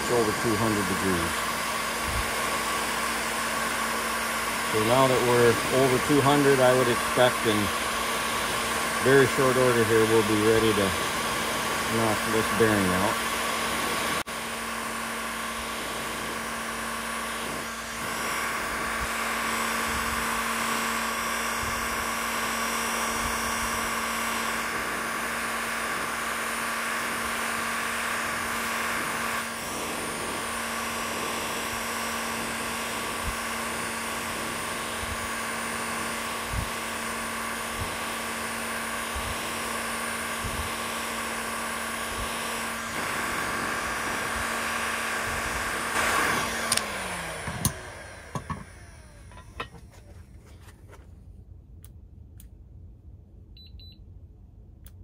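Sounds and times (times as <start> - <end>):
heat gun fan whirring: 0.0 - 52.6.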